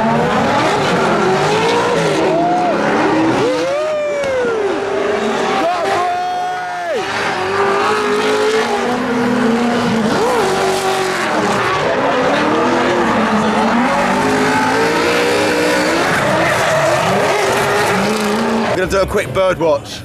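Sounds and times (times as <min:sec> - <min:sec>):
car engines revving: 0:00.0 - 0:19.4.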